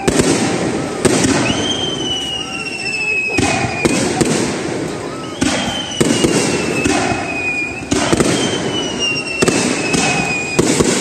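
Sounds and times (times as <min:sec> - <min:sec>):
descending firework whistle: 0:00.0 - 0:11.0
fireworks bangs: 0:00.0 - 0:11.0.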